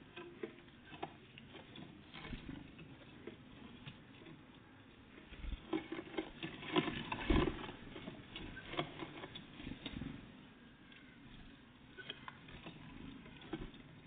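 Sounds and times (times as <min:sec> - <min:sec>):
birds pecking at a feeder: 0:00.0 - 0:14.0.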